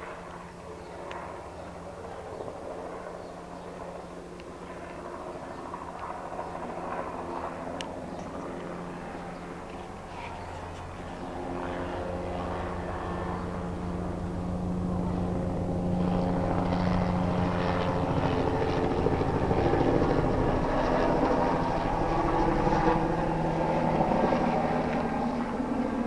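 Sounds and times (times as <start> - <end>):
engine and turbine whine: 0.0 - 26.0
helicopter rotor beat: 0.0 - 26.0.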